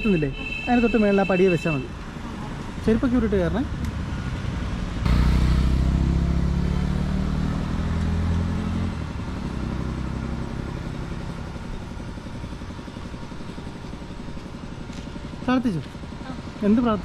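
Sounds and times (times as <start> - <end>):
vehicle engine passing: 2.4 - 17.0.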